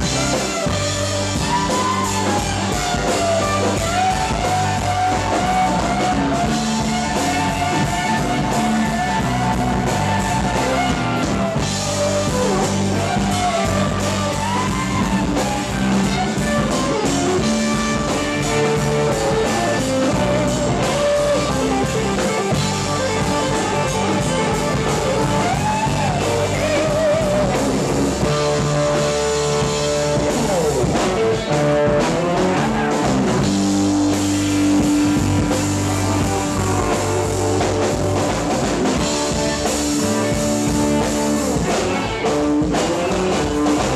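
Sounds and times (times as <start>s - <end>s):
bending lead guitar line: 0.0s - 43.9s
live rock band playing: 0.0s - 43.9s.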